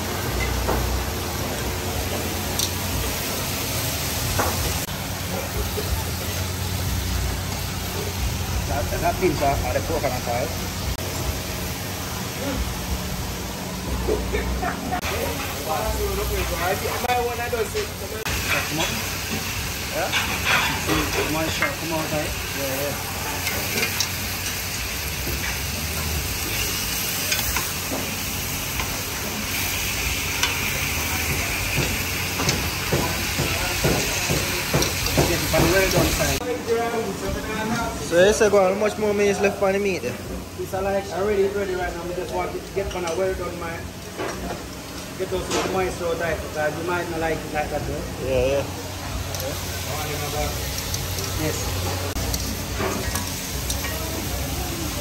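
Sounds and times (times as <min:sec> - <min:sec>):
food sizzling in pans: 0:00.0 - 0:55.0.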